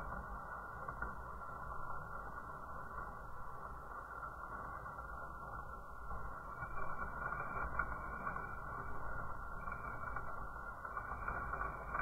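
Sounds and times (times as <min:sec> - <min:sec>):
fire crackling: 0:00.0 - 0:12.0
fire hissing: 0:00.0 - 0:12.0.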